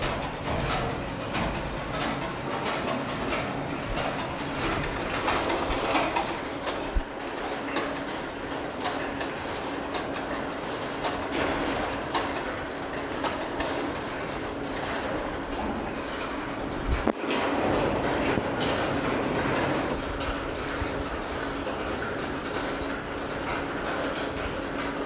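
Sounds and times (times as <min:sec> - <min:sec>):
steady mechanical hum: 0:00.0 - 0:25.0
suspended railcar running gear clattering: 0:00.0 - 0:25.0.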